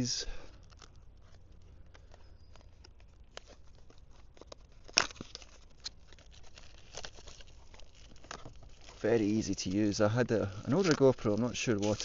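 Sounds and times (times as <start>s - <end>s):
packaging rustling: 0.5s - 12.0s.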